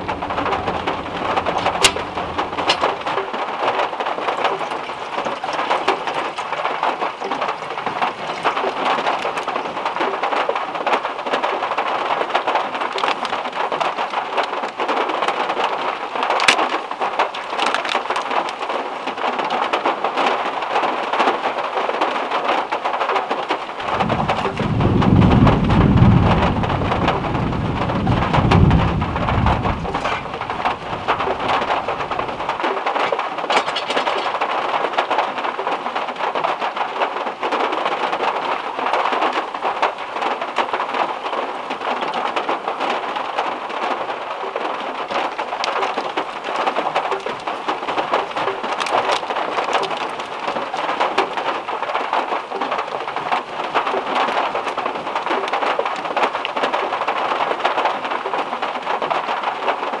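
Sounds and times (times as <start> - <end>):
rain on a car roof: 0.0 - 60.0.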